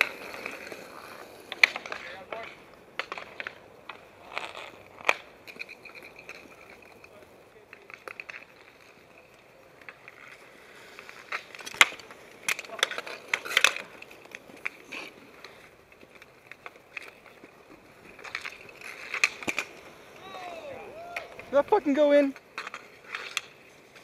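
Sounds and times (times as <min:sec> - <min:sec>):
hockey sticks clacking and slapping: 0:00.0 - 0:24.0.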